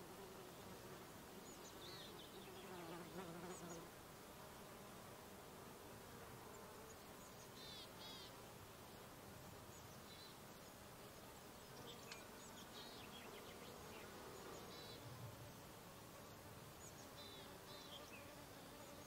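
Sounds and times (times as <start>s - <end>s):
insects buzzing: 0.0s - 9.0s, 9.6s - 19.0s.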